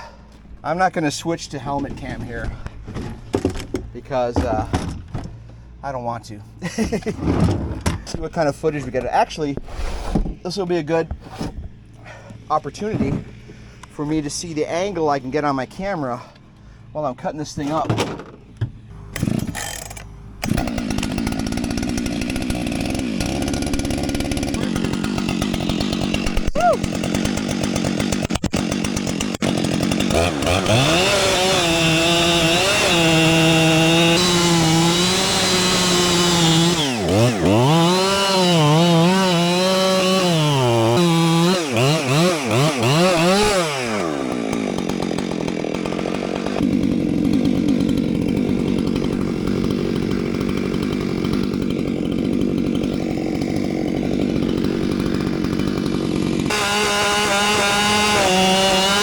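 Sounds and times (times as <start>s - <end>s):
chainsaw cutting wood: 6.7s - 59.0s.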